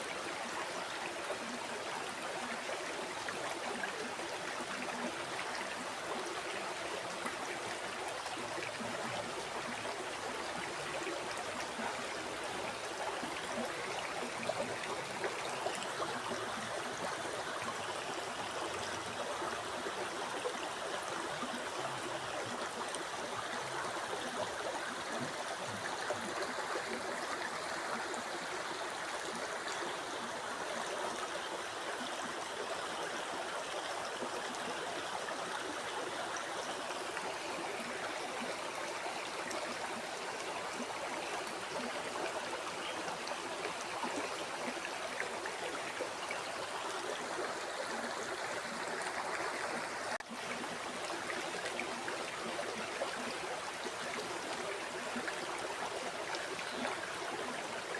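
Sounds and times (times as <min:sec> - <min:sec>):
river water flowing over rocks: 0:00.0 - 0:57.9.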